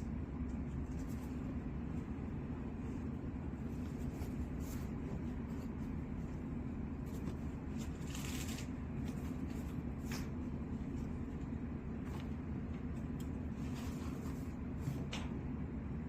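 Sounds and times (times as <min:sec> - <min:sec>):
machinery hum and rumble: 0:00.0 - 0:16.0
rustling noise: 0:00.5 - 0:15.2.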